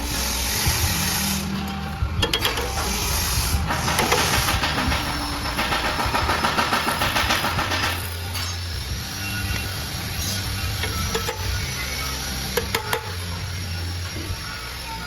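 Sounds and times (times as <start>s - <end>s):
rattling clatter and hiss: 0.0s - 14.7s
machinery humming: 0.0s - 15.0s.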